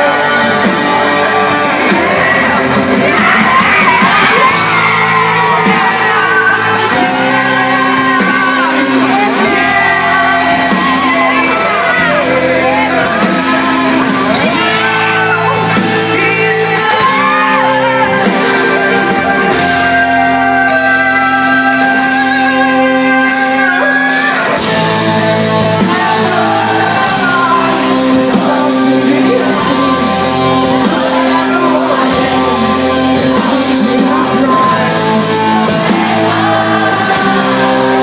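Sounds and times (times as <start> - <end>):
live rock band playing: 0.0 - 38.0
voices singing and shouting: 0.0 - 38.0.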